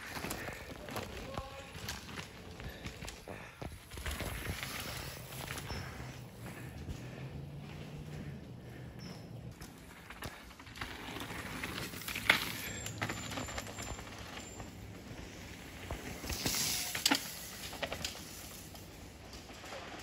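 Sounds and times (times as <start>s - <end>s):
bike rattling over bumps: 0.0s - 20.0s
bike tyres crunching on dirt: 0.0s - 20.0s.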